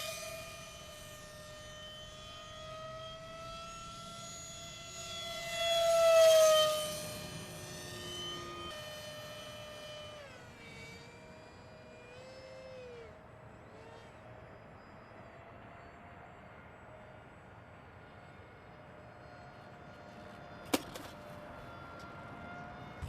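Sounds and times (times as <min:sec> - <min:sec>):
model jet fan whining: 0:00.0 - 0:23.0.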